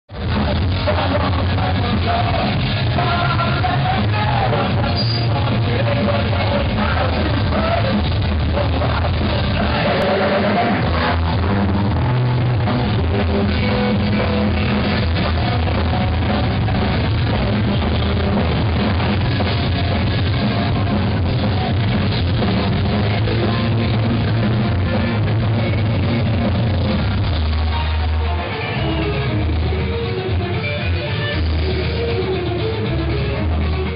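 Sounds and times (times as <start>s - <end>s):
live rock band playing: 0.1s - 33.9s.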